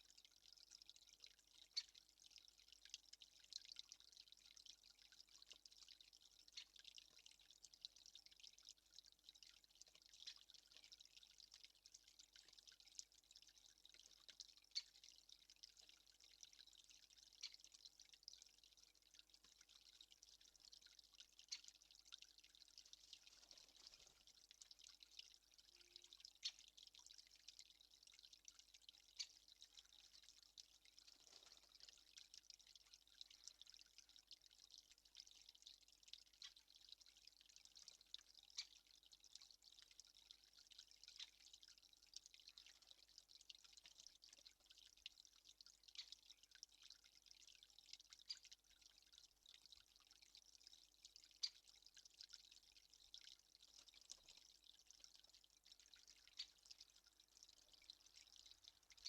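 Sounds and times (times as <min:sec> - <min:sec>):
low steady hiss: 0:00.0 - 0:59.0
water dripping: 0:00.0 - 0:59.0.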